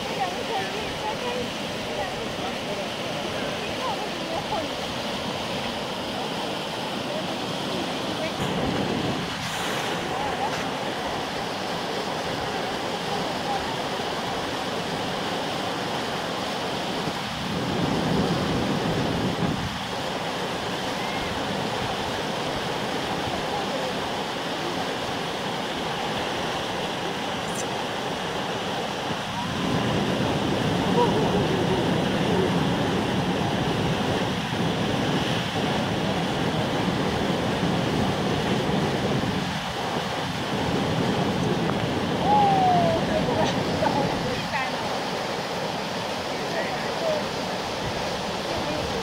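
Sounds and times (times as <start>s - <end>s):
rapids rushing: 0.0s - 49.0s
wave breaking into whitewater: 0.0s - 49.0s.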